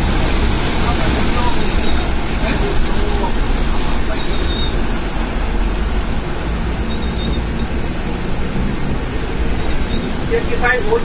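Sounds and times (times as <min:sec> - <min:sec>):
churned water rushing: 0:00.0 - 0:11.0
vehicle low rumble: 0:00.0 - 0:11.0.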